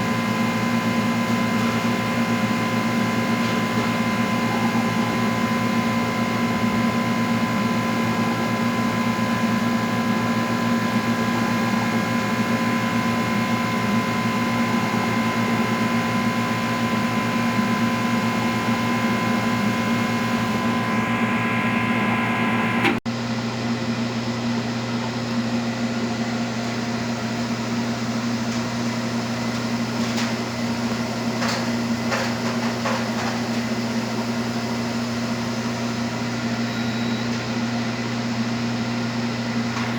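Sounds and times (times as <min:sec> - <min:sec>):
machine hum with steady tones: 0:00.0 - 0:39.9.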